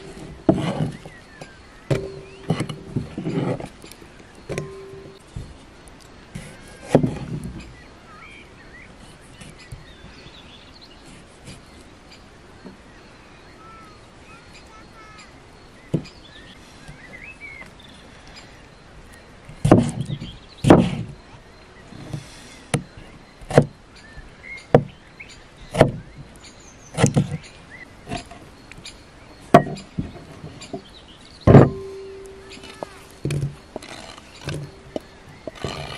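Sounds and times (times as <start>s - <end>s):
faint chirping: 0.0s - 3.1s, 3.8s - 35.9s.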